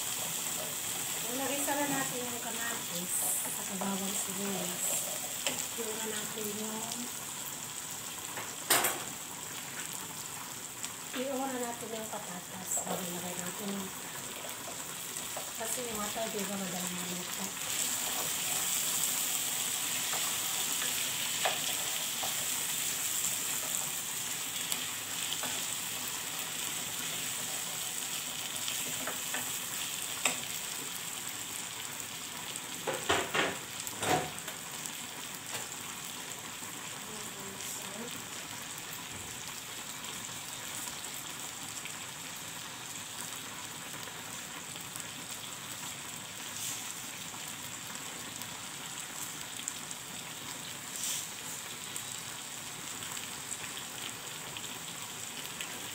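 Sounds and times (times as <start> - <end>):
potatoes sizzling in sauce: 0.0 - 55.9.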